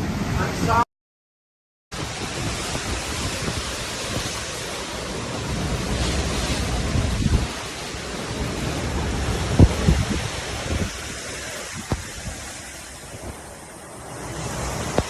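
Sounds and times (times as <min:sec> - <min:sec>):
rushing water: 0:00.0 - 0:00.8, 0:01.9 - 0:15.0
wind gusts buffeting microphone: 0:02.0 - 0:15.0.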